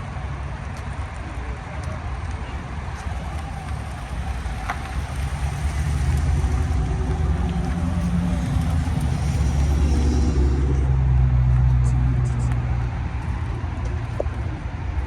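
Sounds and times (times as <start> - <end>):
car engine running: 2.4 - 15.0.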